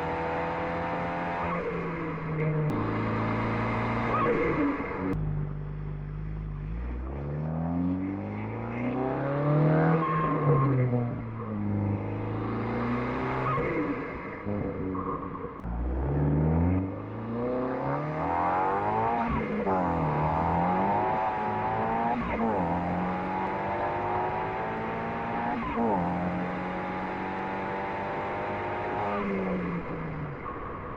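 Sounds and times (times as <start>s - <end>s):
car engine accelerating hard: 0.0s - 30.8s.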